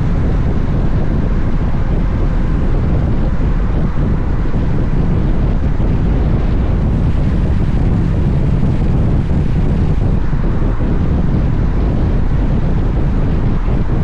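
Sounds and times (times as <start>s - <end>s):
road and engine rumble: 0.0s - 14.0s
wind rushing over microphone: 0.0s - 14.0s.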